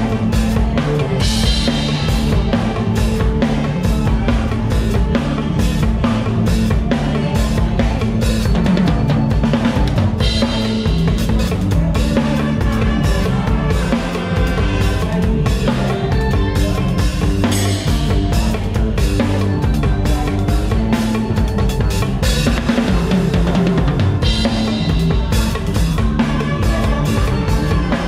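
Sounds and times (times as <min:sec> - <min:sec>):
drum kit beat: 0:00.0 - 0:28.0
electric bass: 0:00.0 - 0:28.0
keyboard: 0:00.0 - 0:28.0
live band music: 0:00.0 - 0:28.0.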